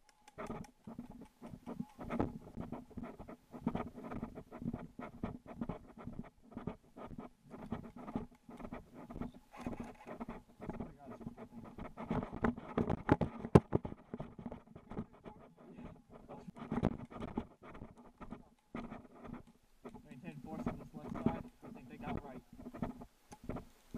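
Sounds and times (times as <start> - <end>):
carried gear rustling and knocking: 0.7 - 23.7.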